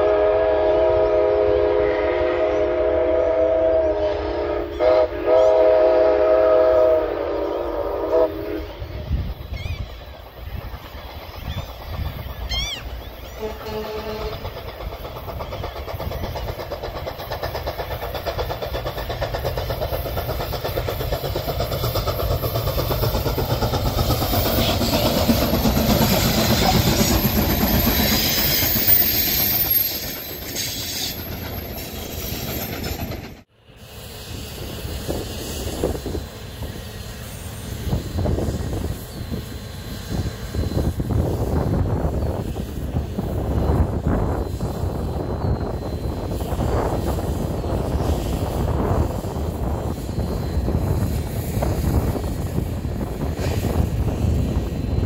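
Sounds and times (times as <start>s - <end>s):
steam train rumbling past: 0.0s - 55.0s.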